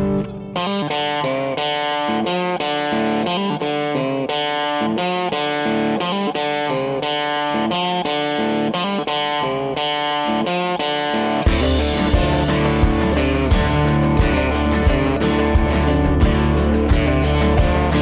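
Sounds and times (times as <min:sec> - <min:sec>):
guitar plucked notes: 0:00.0 - 0:18.0.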